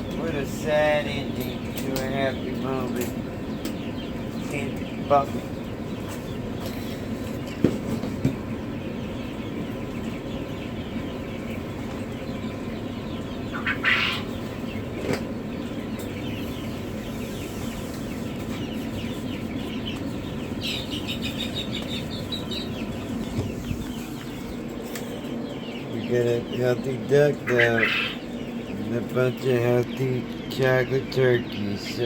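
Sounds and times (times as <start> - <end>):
chicks and ducklings peeping: 0.0 - 32.0
steady hum: 0.0 - 32.0.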